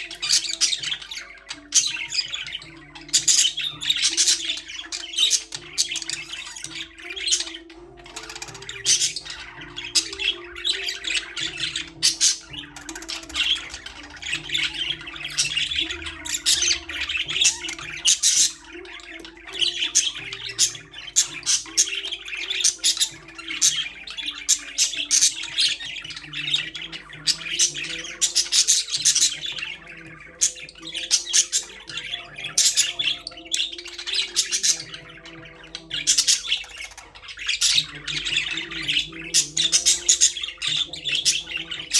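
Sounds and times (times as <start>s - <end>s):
budgerigars chirping and squawking: 0.0s - 41.9s.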